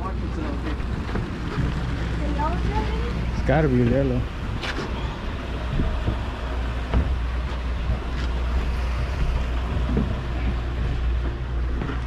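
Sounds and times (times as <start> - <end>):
boat engine low rumble: 0.0 - 12.0
sea washing alongside: 0.0 - 12.0
wind buffeting microphone: 0.0 - 12.0.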